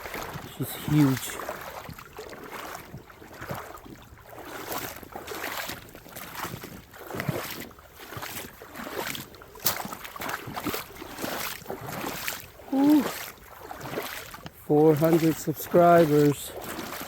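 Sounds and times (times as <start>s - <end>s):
footsteps walking along a creek: 0.0s - 17.0s.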